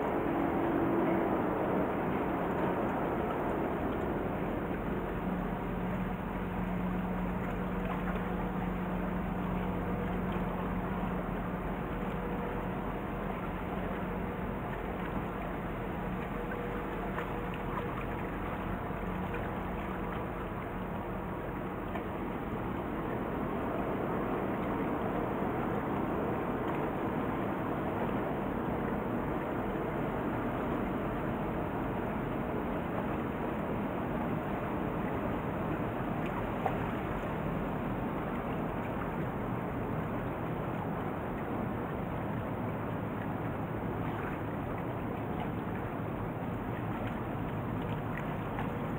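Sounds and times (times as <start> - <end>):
boat engine rumbling: 0.0 - 48.9.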